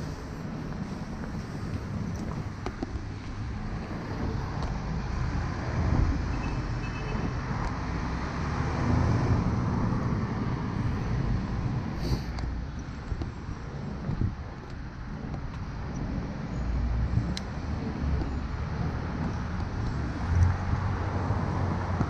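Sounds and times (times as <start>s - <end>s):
cars and buses driving past: 0.0s - 22.0s.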